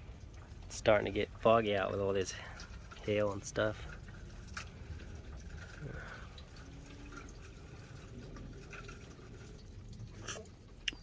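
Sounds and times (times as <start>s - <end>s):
low steady hiss: 0.0s - 11.0s
water dripping: 0.0s - 11.0s.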